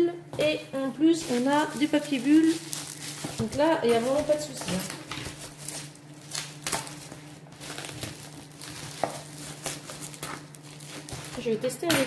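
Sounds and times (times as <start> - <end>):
plastic crinkling: 1.1 - 11.8
scissors cutting bubble wrap: 1.1 - 11.8.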